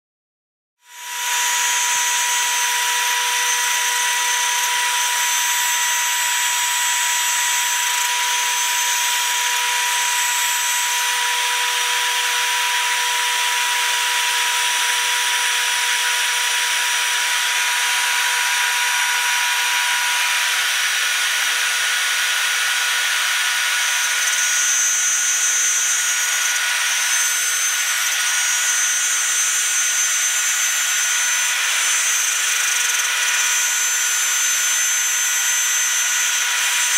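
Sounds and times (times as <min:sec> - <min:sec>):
router spindle high whine: 0:00.8 - 0:36.9
end mill cutting wood: 0:00.9 - 0:36.9.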